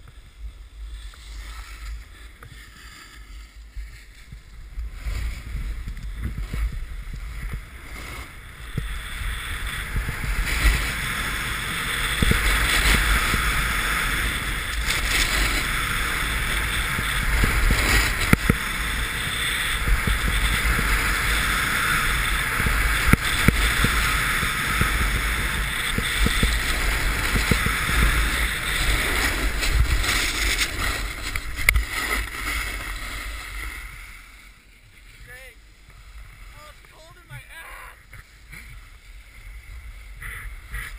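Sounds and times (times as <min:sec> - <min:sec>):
skis scraping over snow: 0:00.0 - 0:40.9
wind rumbling on microphone: 0:00.0 - 0:40.9.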